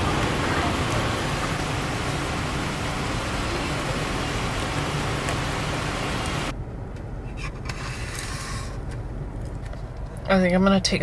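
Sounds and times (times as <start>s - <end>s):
road and wind noise in car: 0.0s - 11.0s.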